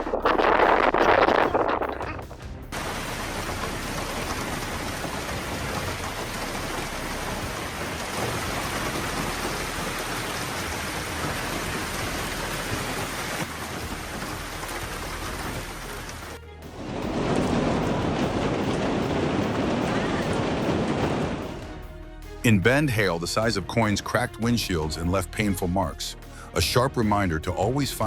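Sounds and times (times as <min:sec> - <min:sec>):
heavy rain pouring: 0:00.0 - 0:23.3.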